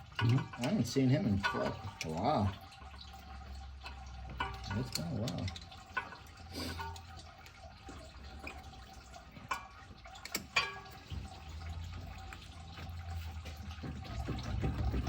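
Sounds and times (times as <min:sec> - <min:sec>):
liquid trickling and dripping: 0:00.0 - 0:15.0.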